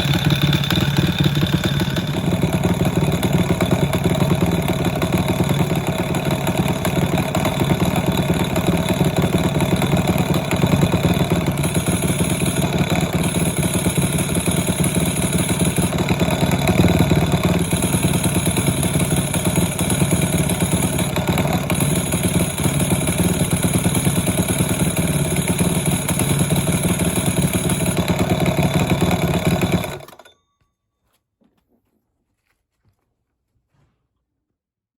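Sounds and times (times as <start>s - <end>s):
small motorcycle engine idling: 0.0s - 30.4s.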